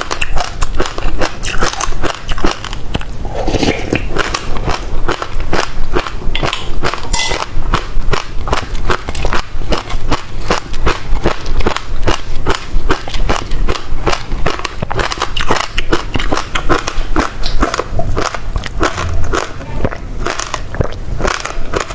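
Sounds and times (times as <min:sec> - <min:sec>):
chewing with seeds crunching: 0:00.0 - 0:21.9.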